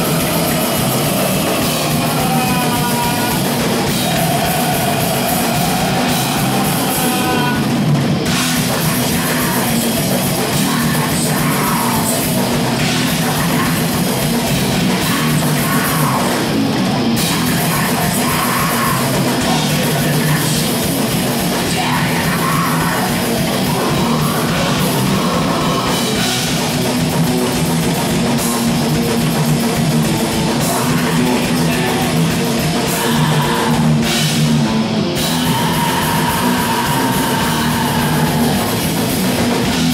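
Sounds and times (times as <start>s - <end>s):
metal band playing live: 0.0s - 39.9s.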